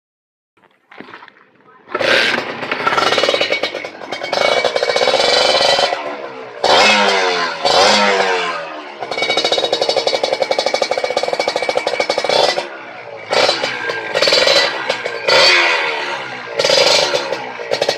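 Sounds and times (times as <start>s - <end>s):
motorcycle engine revving: 1.9s - 17.9s.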